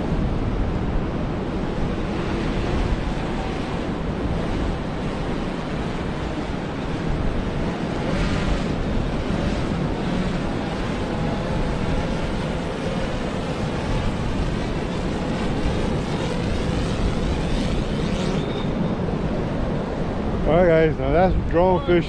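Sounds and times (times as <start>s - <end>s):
drone propellers whining: 0.0s - 22.0s
wind: 0.0s - 22.0s.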